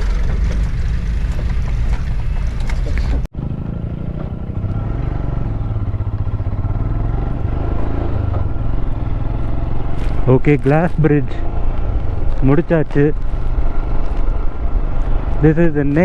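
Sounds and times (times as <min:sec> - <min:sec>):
engine and wind noise: 0:00.0 - 0:16.0
motorcycle engine running steadily: 0:00.0 - 0:16.0.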